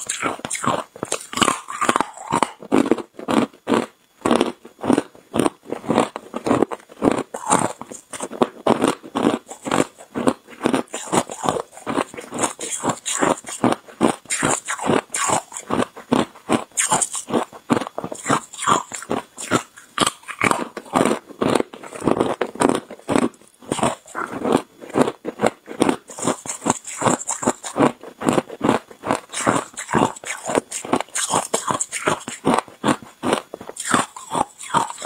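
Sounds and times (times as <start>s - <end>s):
ice crunching being chewed: 0.0s - 35.0s.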